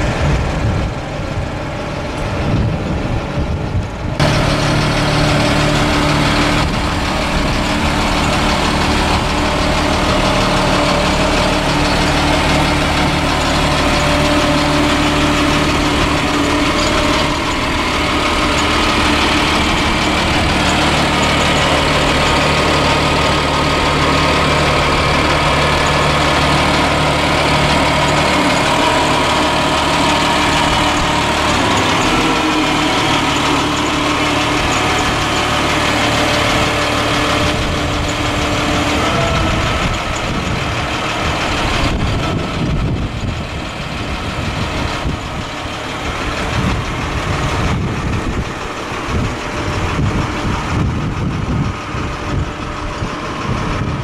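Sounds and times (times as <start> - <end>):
diesel truck engine idling: 0.0 - 54.0
rough uneven engine sound: 0.0 - 54.0.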